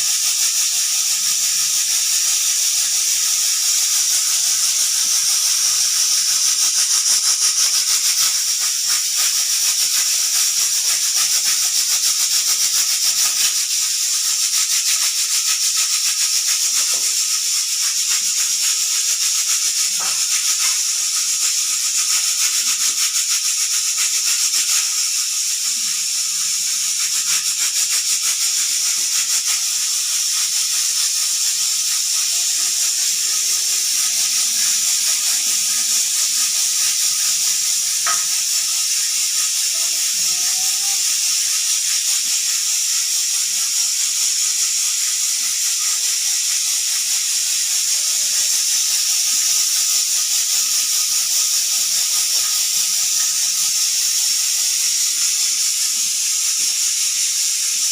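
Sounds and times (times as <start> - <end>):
pressure cooker steam hiss: 0.0 - 57.9.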